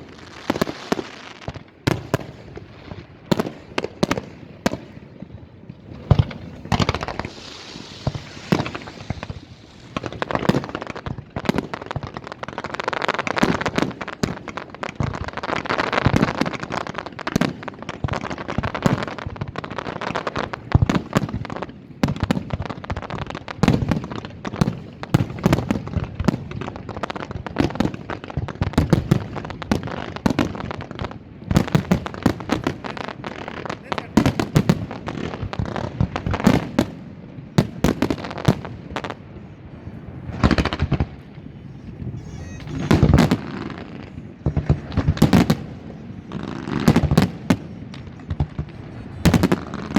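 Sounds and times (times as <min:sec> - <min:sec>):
firework bangs and pops: 0:00.0 - 0:49.9
firework crackling: 0:00.0 - 0:49.9.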